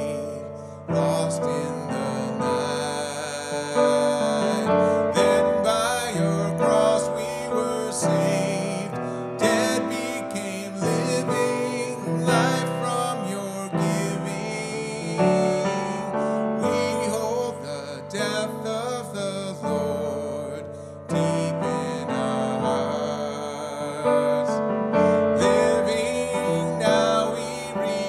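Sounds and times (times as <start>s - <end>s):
piano playing hymn tune: 0.0s - 28.0s.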